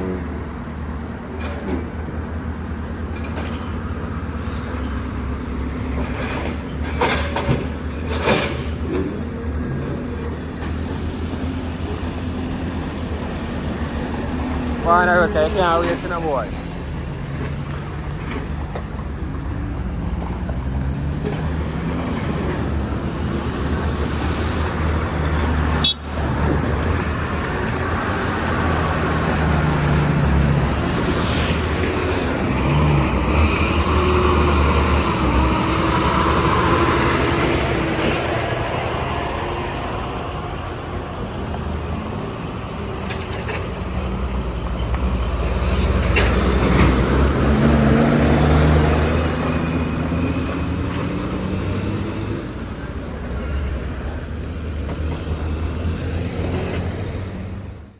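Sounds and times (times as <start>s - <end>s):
heavy truck engine running: 0.0s - 57.9s
road and traffic noise: 0.0s - 57.9s.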